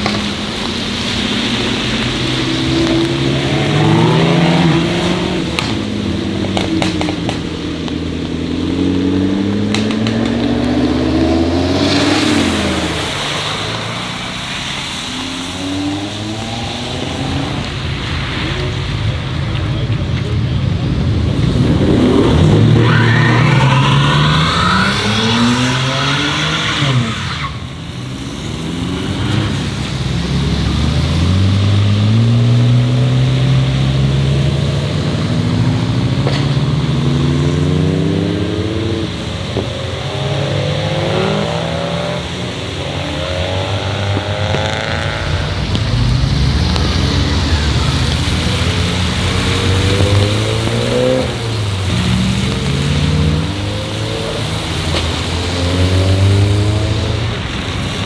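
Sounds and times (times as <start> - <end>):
car engines revving: 0.0 - 58.0
tyres hissing on wet road: 0.0 - 58.0.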